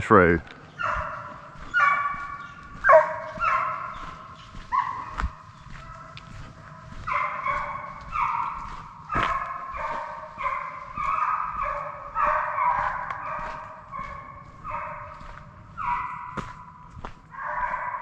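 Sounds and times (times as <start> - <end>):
hounds baying: 0.7 - 18.0.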